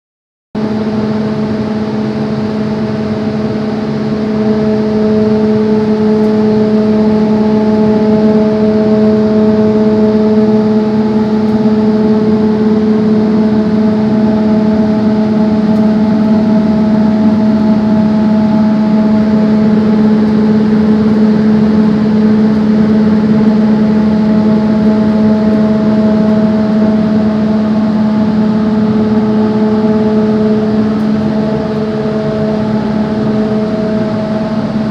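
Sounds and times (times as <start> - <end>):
machine hum: 0.6 - 34.9.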